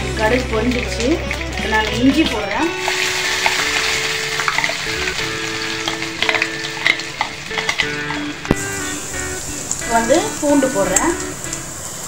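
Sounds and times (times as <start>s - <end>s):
ginger sizzling in hot oil: 0.0s - 12.0s
oil crackling: 0.0s - 12.0s.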